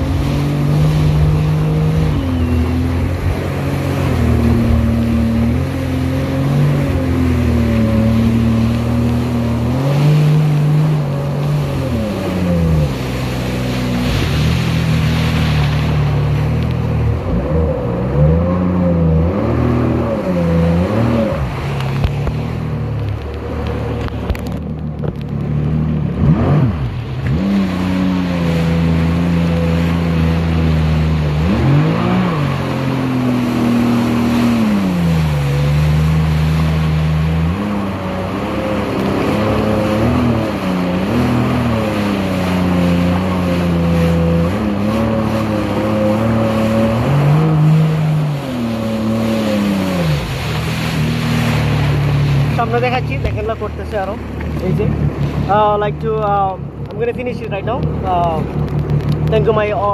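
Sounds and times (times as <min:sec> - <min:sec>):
jet ski engine revving: 0:00.0 - 0:59.9
water rushing under hull: 0:00.0 - 0:59.9.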